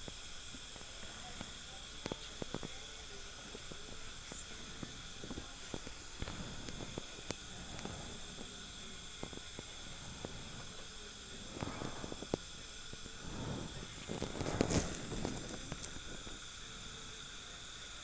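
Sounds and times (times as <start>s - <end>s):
dental equipment hissing: 0.0s - 18.0s.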